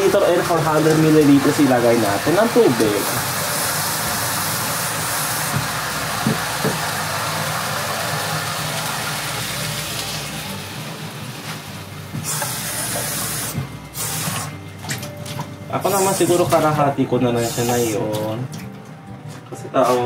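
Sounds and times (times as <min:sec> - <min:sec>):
water running into a pot: 0:00.0 - 0:18.8.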